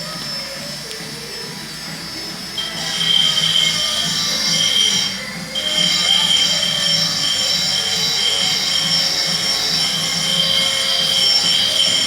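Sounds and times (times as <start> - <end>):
machine high-pitched whine: 0.0 - 12.0.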